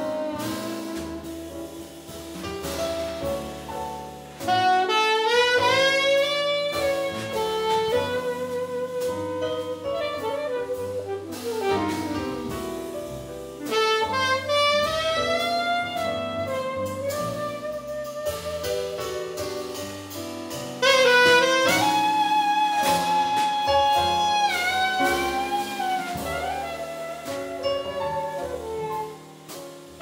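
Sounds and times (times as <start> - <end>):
saxophone melody: 0.0 - 1.8, 4.4 - 12.6, 13.6 - 19.6, 20.8 - 29.4
double bass: 0.0 - 30.0
drum kit with cymbals: 0.0 - 30.0.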